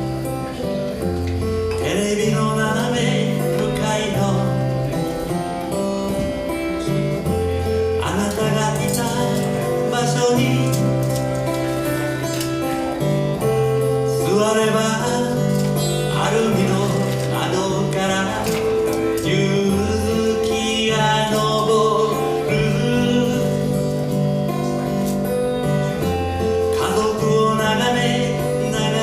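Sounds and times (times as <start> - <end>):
plucked string accompaniment: 0.0 - 29.0
person singing: 1.7 - 29.0.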